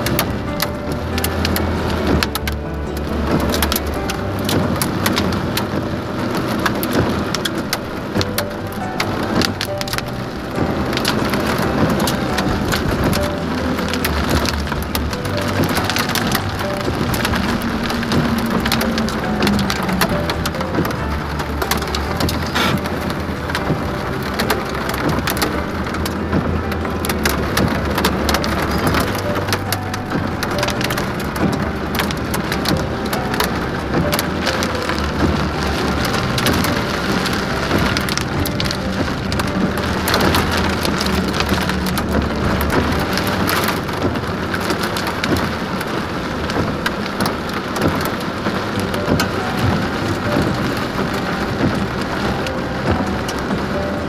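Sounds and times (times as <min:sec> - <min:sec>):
heavy rain on car windshield: 0:00.0 - 0:54.0
low car rumble: 0:00.0 - 0:54.0.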